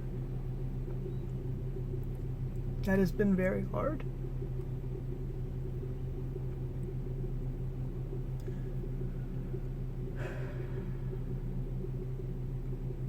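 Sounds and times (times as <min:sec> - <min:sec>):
car cabin drone: 0:00.0 - 0:13.0.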